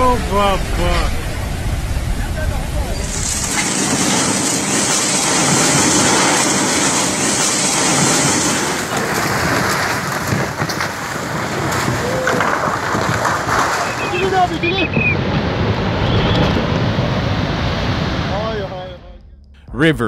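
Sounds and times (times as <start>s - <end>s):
buildings and ground collapsing: 0.0s - 18.4s
flood torrent rushing: 0.0s - 19.0s.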